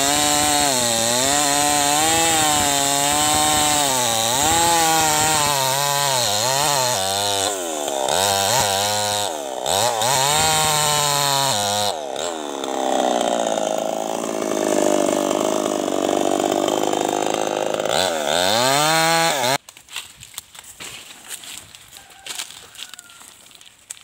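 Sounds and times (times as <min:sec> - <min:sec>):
chainsaw cutting a log: 0:00.0 - 0:19.6.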